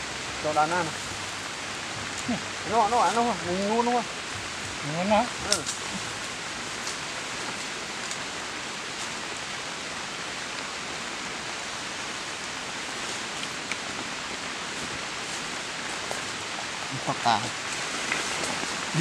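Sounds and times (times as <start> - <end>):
rushing hiss of outdoor noise: 0.0 - 19.0.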